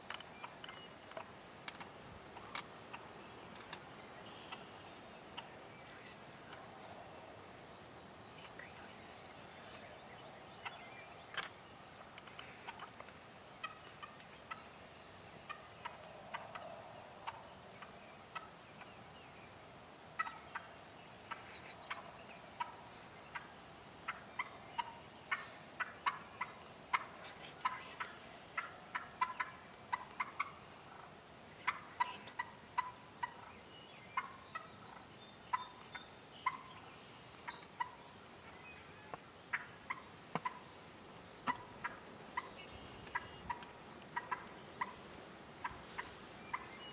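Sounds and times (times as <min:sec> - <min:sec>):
turkey hen clucking: 0:00.1 - 0:03.7, 0:10.5 - 0:19.0, 0:20.2 - 0:45.0, 0:45.6 - 0:46.9.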